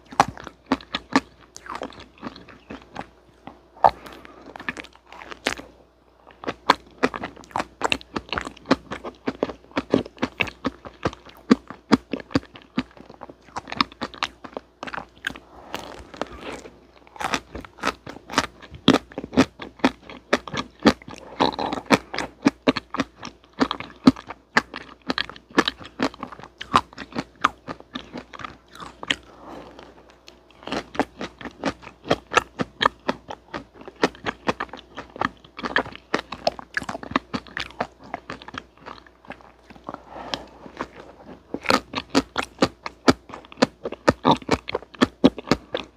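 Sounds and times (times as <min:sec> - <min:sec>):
crunchy chewing of frozen cake: 0:00.0 - 0:45.9.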